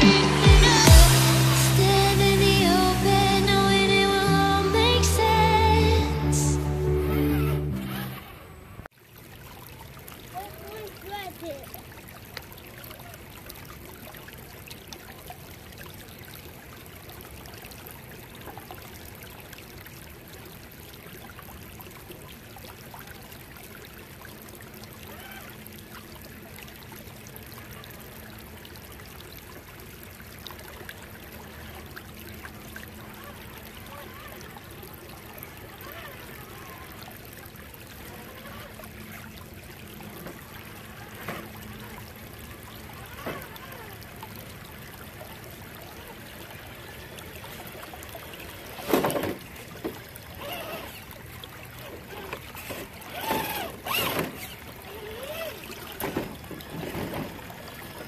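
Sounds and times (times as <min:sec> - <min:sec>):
creek babbling over rocks: 0:00.0 - 0:58.0.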